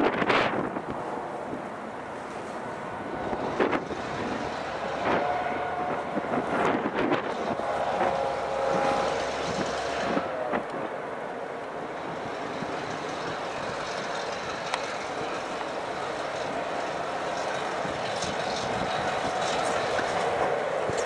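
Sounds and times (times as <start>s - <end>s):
diesel locomotives running: 0.0s - 21.0s.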